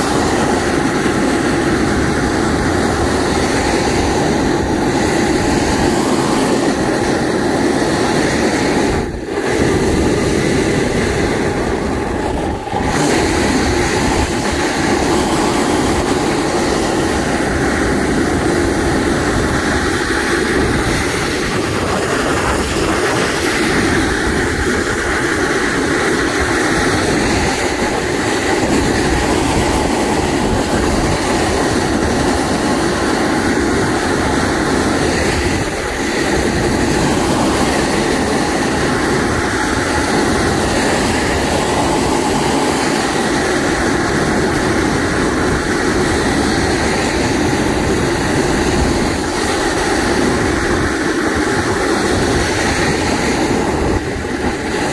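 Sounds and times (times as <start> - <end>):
snowboard scraping on snow: 0.0 - 54.9
wind rushing over microphone: 0.0 - 54.9.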